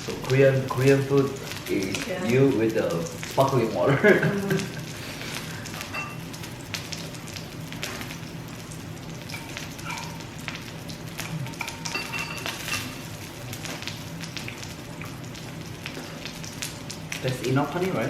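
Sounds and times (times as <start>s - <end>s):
pork sizzling on a grill: 0.0s - 18.0s.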